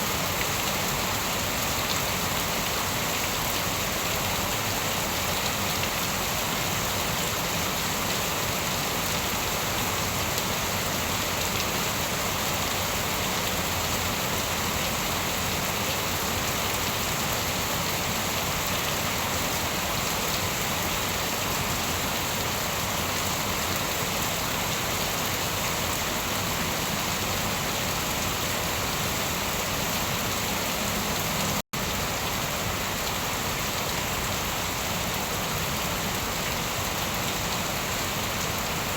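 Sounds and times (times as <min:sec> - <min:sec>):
dense rainfall hiss: 0:00.0 - 0:38.9.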